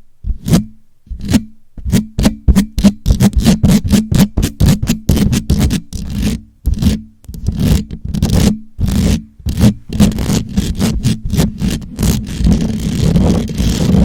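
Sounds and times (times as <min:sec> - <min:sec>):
fingers scratching a microphone: 0:00.0 - 0:14.0
steady low hum: 0:00.0 - 0:14.0.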